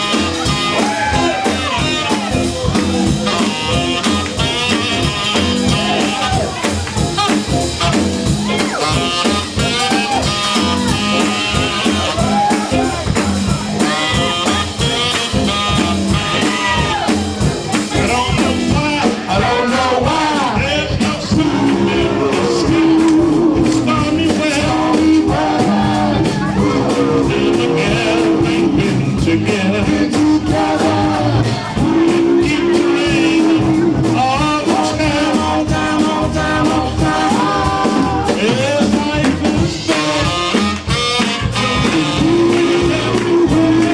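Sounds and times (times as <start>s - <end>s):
backing band playing: 0.0s - 43.9s
doo-wop group singing: 0.0s - 43.9s.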